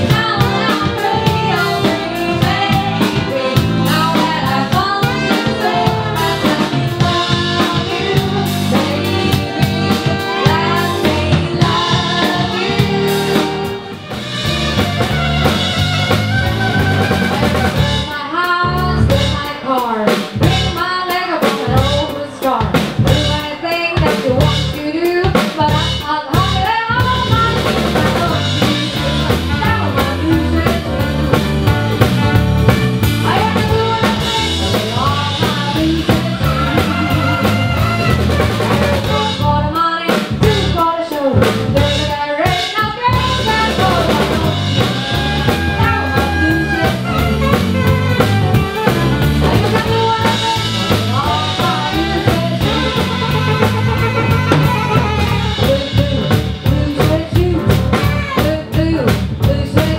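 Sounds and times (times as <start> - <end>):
drum kit beat: 0.0 - 59.9
live band dance music: 0.0 - 59.9.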